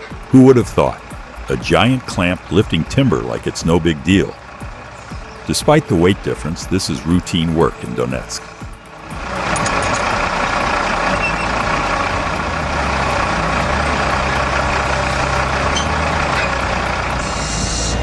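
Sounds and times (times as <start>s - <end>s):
heavy machine engine drone: 0.0s - 18.0s.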